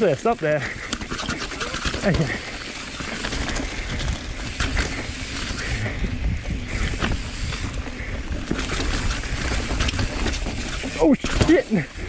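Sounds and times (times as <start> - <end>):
tyres rumbling on rock: 0.0 - 12.0
wind buffeting microphone: 0.7 - 12.0
bike knocks and clatters: 0.8 - 12.0.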